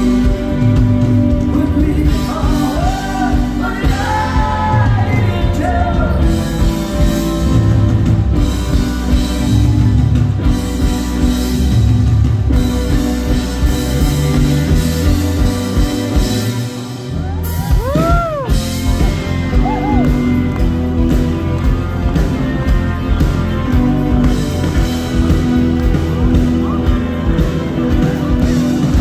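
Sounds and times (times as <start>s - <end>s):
bass guitar: 0.0s - 29.0s
drums: 0.0s - 29.0s
electric guitar: 0.0s - 29.0s
keyboards: 0.0s - 29.0s.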